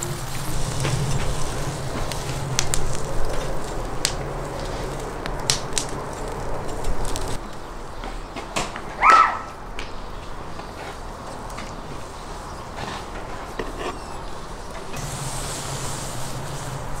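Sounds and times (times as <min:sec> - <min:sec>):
fire crackling and popping: 0:00.0 - 0:08.9, 0:09.7 - 0:17.0.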